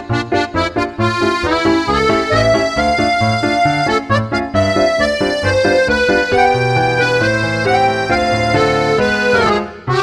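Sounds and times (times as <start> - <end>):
instrumental music with bass: 0.0 - 10.0.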